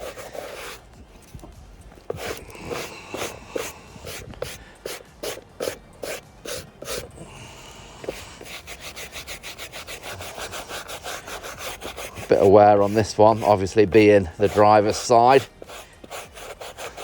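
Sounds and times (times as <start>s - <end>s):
brush scrubbing carpet: 0.0s - 7.1s, 8.0s - 17.0s.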